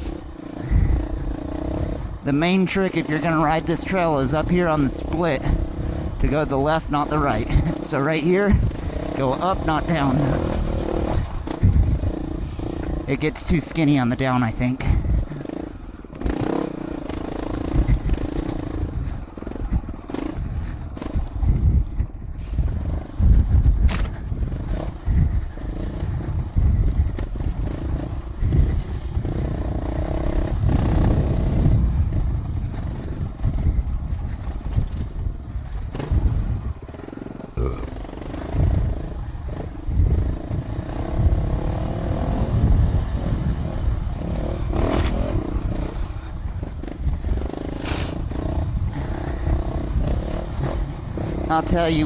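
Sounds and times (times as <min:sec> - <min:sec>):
motorcycle engine revving: 0:00.0 - 0:52.0
wind rumble on microphone: 0:00.0 - 0:52.0.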